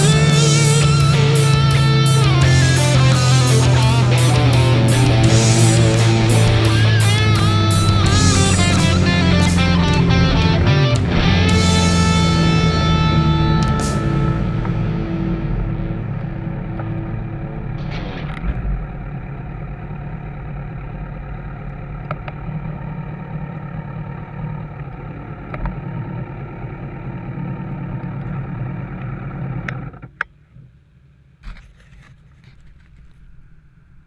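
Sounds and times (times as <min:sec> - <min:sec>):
motorcycle engine idling: 0:00.0 - 0:29.5.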